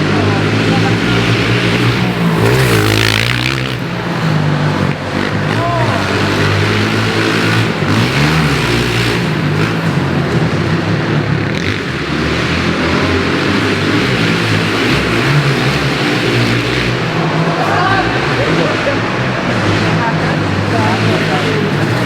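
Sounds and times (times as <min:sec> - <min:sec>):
pit bike engine revving: 0:00.0 - 0:22.0.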